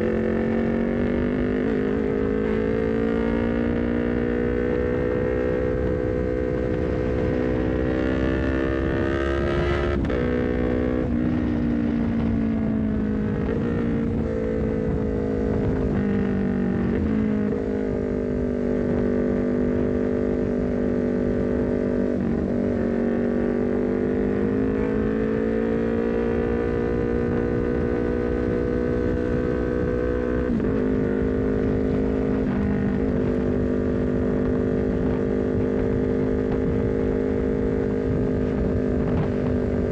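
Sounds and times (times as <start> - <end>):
motorcycle engine revving through gears: 0.0 - 39.9
wind rumble on camera: 0.0 - 39.9.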